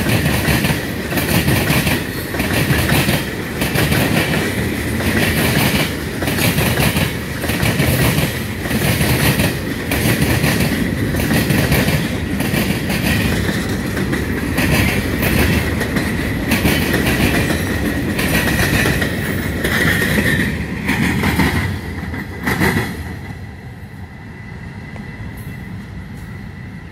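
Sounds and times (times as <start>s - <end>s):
train wheels clacking on rails: 0.0s - 23.8s
train rumble: 0.0s - 26.9s.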